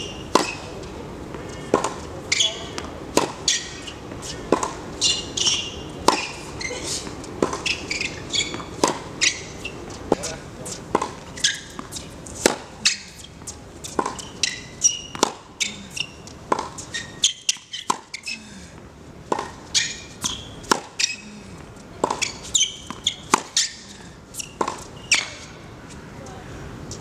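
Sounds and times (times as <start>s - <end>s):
tennis ball bouncing on court: 0.0s - 0.9s, 1.6s - 6.7s, 7.4s - 18.4s, 19.3s - 25.6s
shoes squeaking: 0.0s - 18.6s, 19.3s - 26.1s
tennis ball off racket strings: 0.3s - 0.7s, 1.3s - 18.4s, 19.3s - 21.4s, 22.0s - 25.5s.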